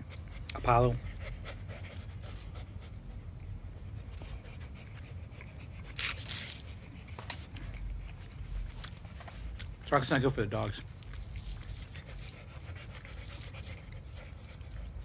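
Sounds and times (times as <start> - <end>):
puppy panting: 0.0 - 15.0.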